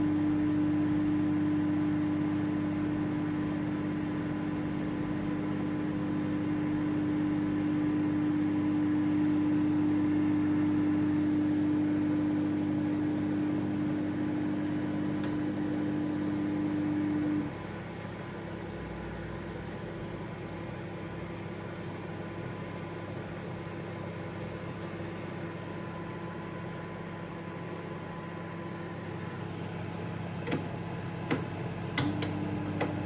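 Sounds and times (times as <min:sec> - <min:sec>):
microwave oven humming: 0:00.0 - 0:33.0.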